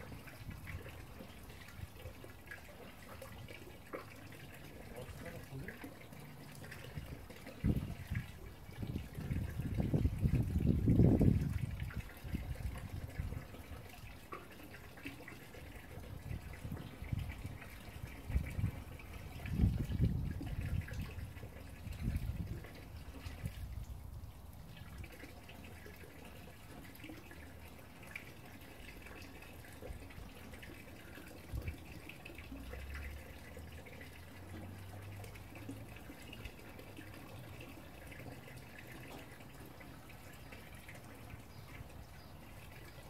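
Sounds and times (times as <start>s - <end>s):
water trickling into a drum: 0.0s - 43.0s.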